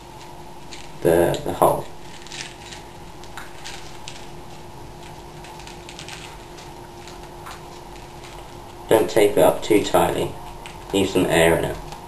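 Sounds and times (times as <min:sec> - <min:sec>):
adhesive tape crinkling: 0:00.0 - 0:09.4, 0:10.2 - 0:12.0
steady low hum: 0:00.0 - 0:12.0.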